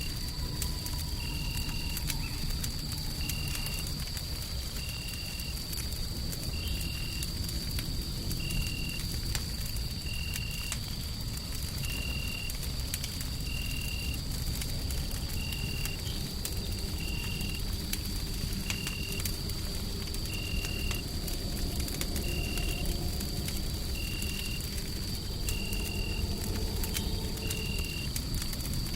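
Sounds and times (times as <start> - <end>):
fire crackling and popping: 0.0 - 28.9
low white noise rumble: 0.0 - 28.9.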